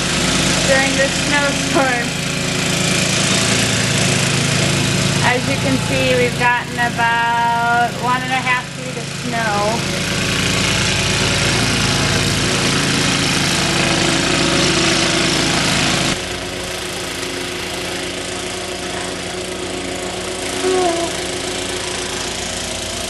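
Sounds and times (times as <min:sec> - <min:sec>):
snowblower engine running: 0:00.0 - 0:23.0.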